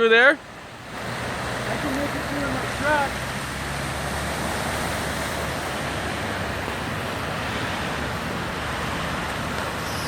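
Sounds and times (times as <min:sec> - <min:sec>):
heavy rain: 0:00.0 - 0:10.0
tyres swishing through water: 0:00.0 - 0:10.0
water running over road: 0:00.0 - 0:10.0.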